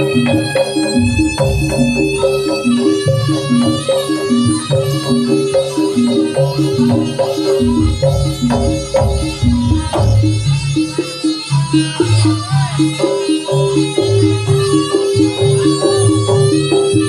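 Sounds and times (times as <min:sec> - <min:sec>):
hand drums: 0:00.0 - 0:17.0
repeating pitched melody: 0:00.0 - 0:17.0.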